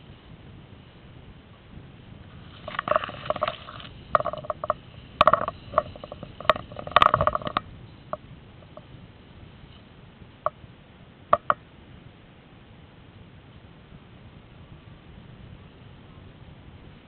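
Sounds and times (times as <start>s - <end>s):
steady whine: 0.0s - 17.0s.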